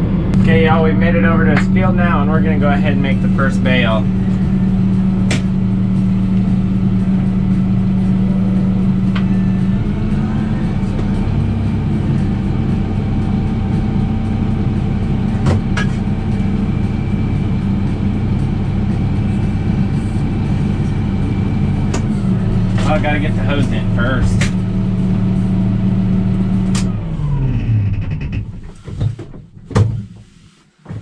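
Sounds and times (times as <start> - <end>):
tractor engine running: 0.0 - 30.3.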